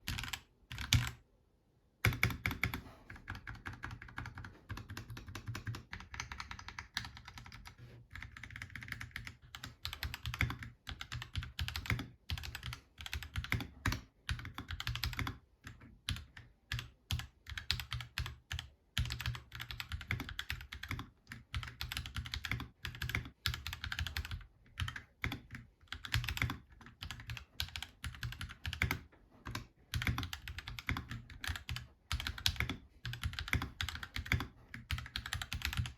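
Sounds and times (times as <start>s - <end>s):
mechanical keyboard typing: 0.0s - 1.2s, 2.0s - 35.9s.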